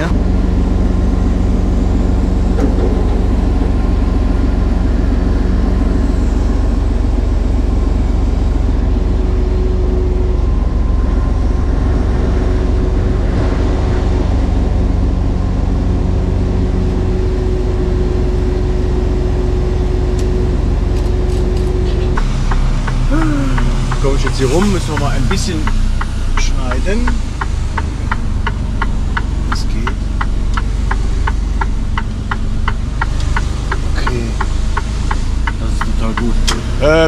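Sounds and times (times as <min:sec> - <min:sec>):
hydraulic crane hum: 0:00.0 - 0:37.0
truck engine drone: 0:00.0 - 0:37.0.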